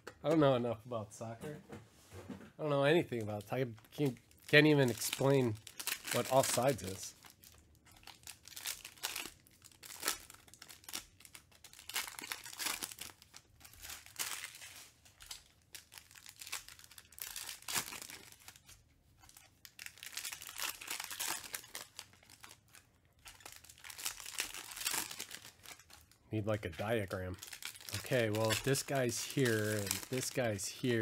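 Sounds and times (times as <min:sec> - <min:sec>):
foil wrappers crinkling and tearing: 0:03.1 - 0:31.0.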